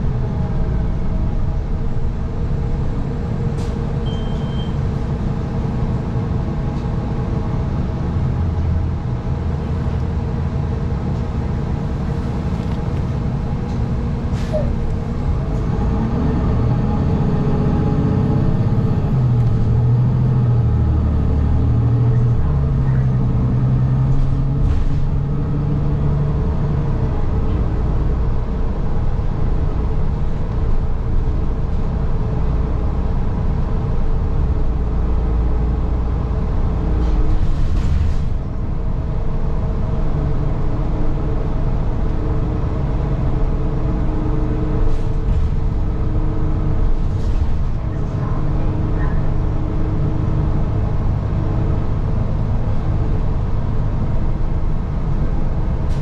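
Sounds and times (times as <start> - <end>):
bus engine hum: 0.0 - 56.0
low road rumble: 0.0 - 56.0.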